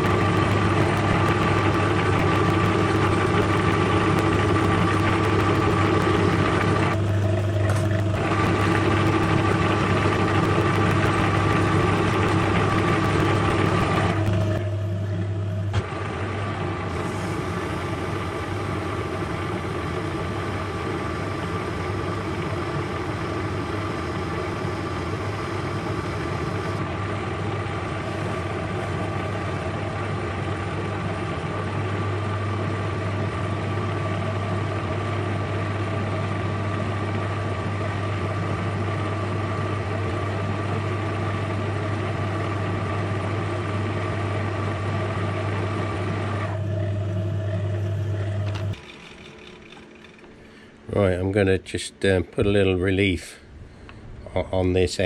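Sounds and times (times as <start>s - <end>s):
metal lathe motor humming: 0.0s - 50.5s.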